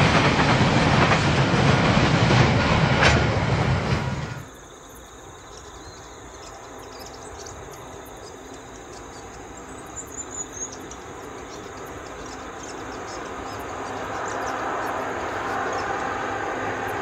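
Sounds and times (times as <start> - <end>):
approaching train: 0.0 - 17.0
insects chirring: 2.8 - 17.0.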